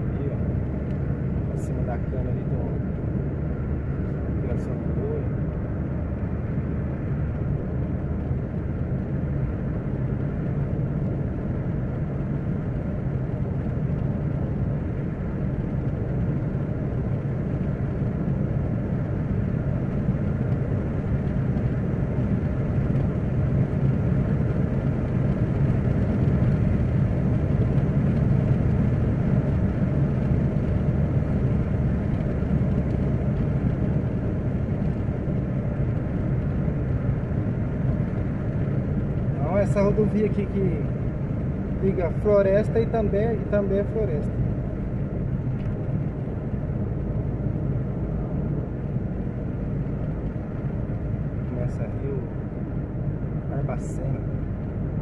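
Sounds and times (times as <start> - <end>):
car cabin road noise: 0.0 - 55.0.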